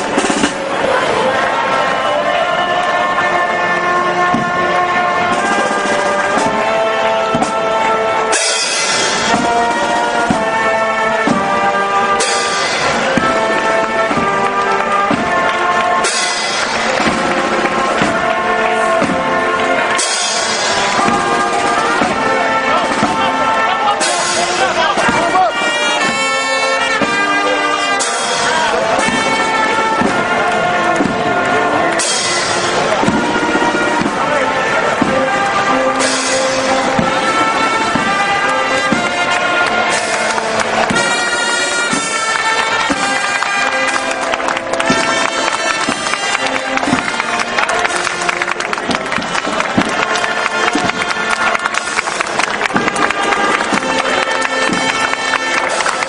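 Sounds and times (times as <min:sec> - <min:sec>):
brass band music: 0:00.0 - 0:56.0
drum beat: 0:04.0 - 0:56.0.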